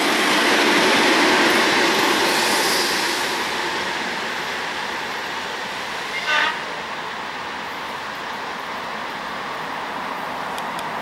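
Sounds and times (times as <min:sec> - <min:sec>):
train wheel and rail noise: 0:00.0 - 0:11.0.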